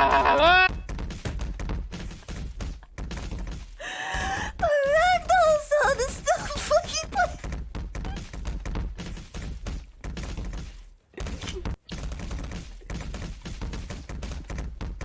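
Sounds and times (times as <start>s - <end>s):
rapid sharp clicks and thumps: 0.0s - 15.0s.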